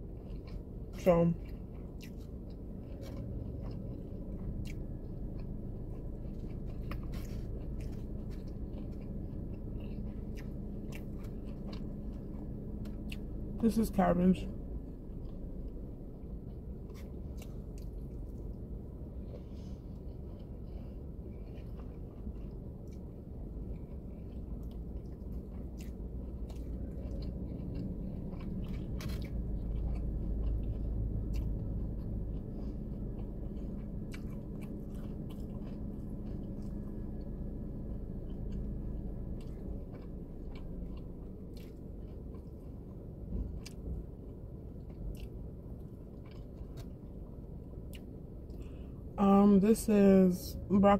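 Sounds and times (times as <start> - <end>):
person chewing food: 0.0 - 13.6, 14.6 - 49.2
steady low rumble: 0.0 - 50.9.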